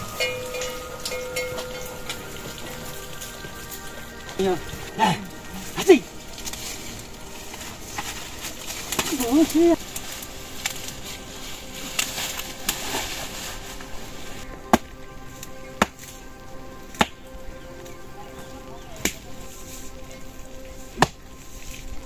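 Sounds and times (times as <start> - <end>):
faint steady tones: 0.0 - 22.0
steady hiss: 0.0 - 22.0.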